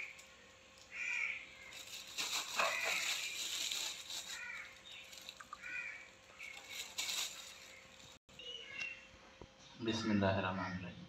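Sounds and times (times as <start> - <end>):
bird calls: 0.0 - 10.9.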